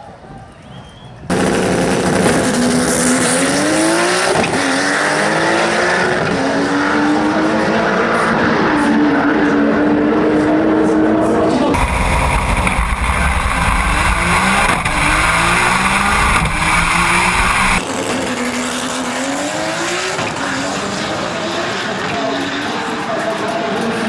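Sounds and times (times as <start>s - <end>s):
drag car engine at full throttle: 1.3s - 24.0s.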